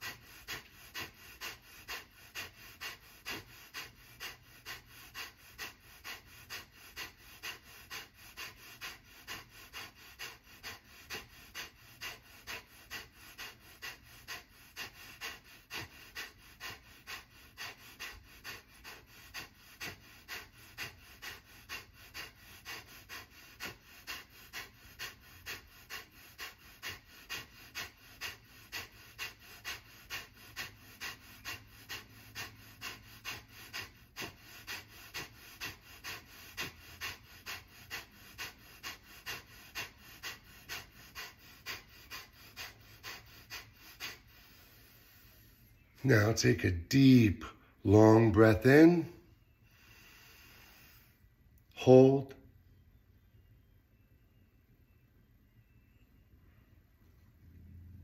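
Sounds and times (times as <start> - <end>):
forceful nasal exhalations: 0.0 - 52.4.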